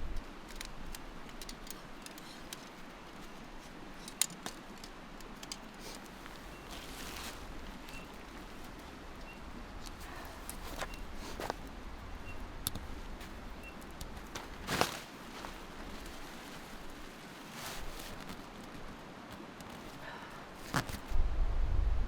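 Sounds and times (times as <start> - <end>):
rustling: 0.5 - 11.8, 12.7 - 21.2.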